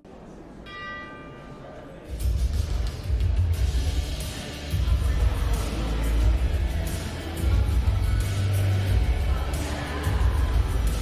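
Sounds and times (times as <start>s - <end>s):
instrumental music with deep bass: 2.2s - 11.0s.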